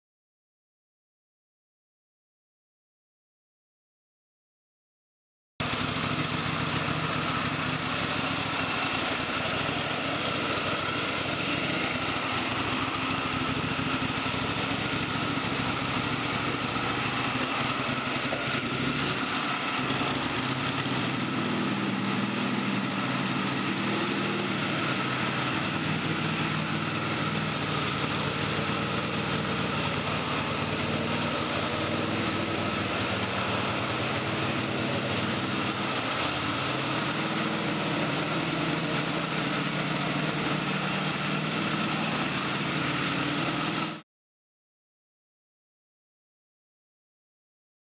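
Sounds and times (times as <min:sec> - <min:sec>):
floor grinder engine hum: 0:05.6 - 0:44.0.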